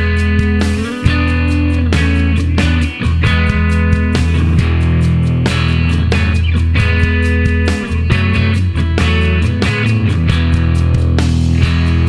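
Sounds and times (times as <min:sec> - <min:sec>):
guitar music: 0:00.0 - 0:12.0
steady bass: 0:00.0 - 0:12.0.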